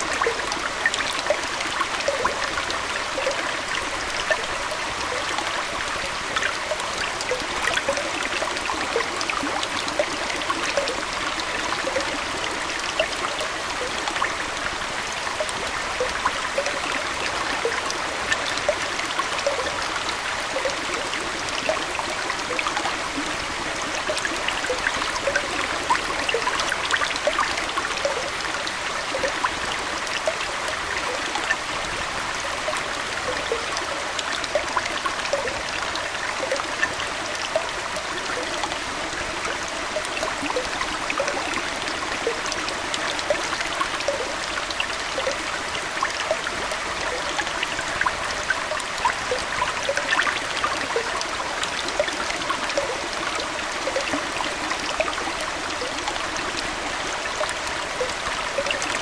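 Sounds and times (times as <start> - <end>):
aquarium water trickling: 0.0 - 59.0
small water plinks: 0.0 - 59.0.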